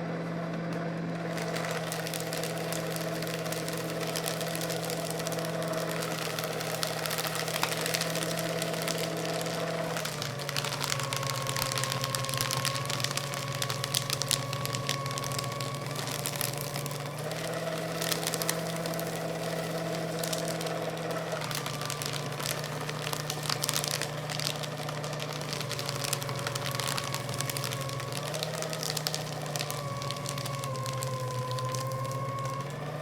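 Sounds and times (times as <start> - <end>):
paper shredder motor humming: 0.0 - 33.0
paper crackling and tearing: 1.2 - 33.0.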